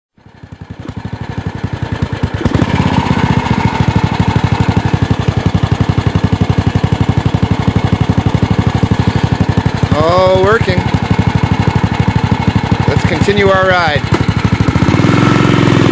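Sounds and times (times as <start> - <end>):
motorcycle engine running: 0.2 - 15.9.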